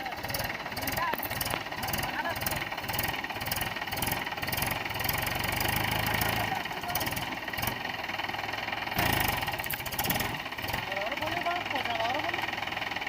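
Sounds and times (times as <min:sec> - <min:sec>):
tractor diesel engine knocking: 0:00.0 - 0:13.0.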